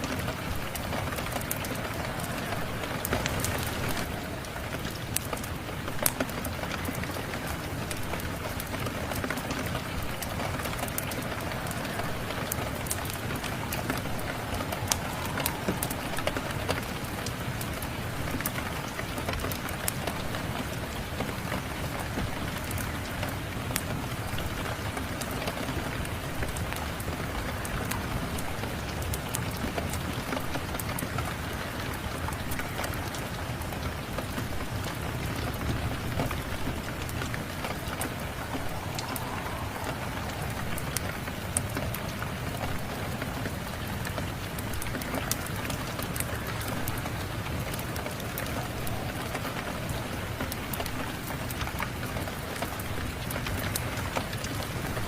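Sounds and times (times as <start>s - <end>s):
steady rain falling: 0.0s - 55.0s
wood fire crackling: 0.0s - 55.0s.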